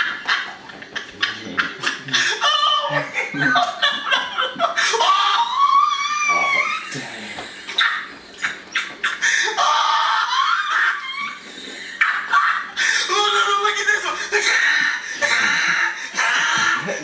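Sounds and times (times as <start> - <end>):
man laughing hard: 0.0 - 8.1, 8.8 - 13.3, 14.4 - 17.0.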